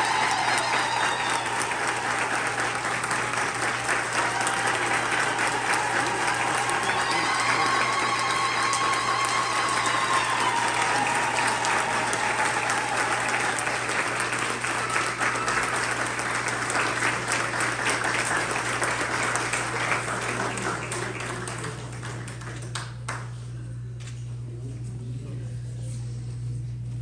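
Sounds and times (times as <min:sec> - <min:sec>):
crowd applauding: 0:00.0 - 0:23.4
steady low hum: 0:01.6 - 0:27.0.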